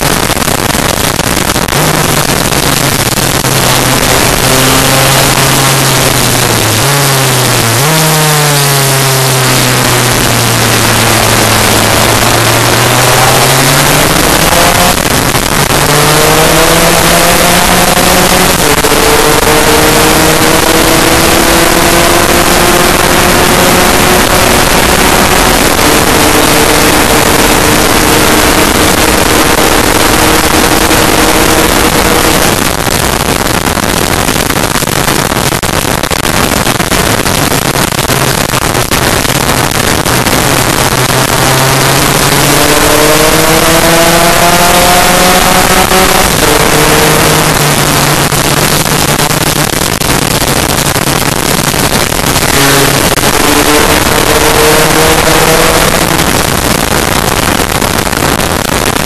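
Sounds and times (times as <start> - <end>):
scooter engine accelerating: 0.0 - 59.0
wind rush on microphone: 8.8 - 59.0.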